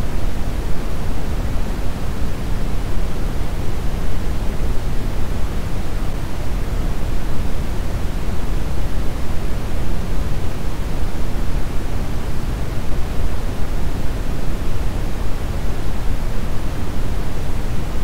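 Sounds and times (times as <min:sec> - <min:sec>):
brown noise hiss: 0:00.0 - 0:18.0.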